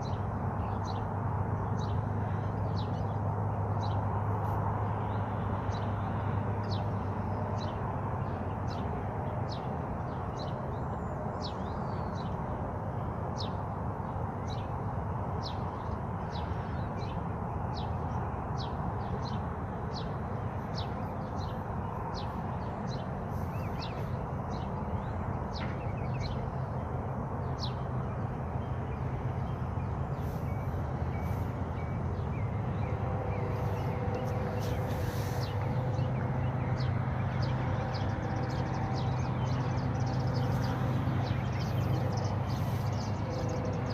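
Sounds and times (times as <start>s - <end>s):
steady rushing noise: 0.0s - 43.9s.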